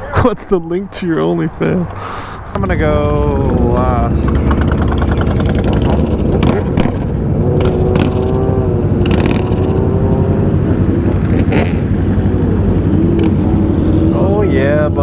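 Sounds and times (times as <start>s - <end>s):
motorcycle engines running: 1.2s - 15.0s.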